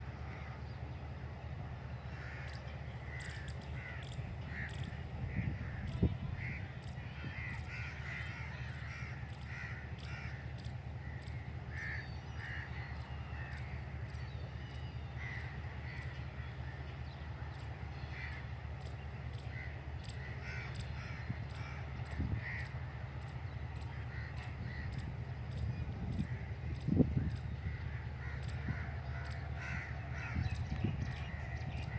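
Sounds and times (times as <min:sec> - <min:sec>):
steady low rumble: 0:00.0 - 0:31.9
crows cawing: 0:00.2 - 0:00.6, 0:02.1 - 0:31.9.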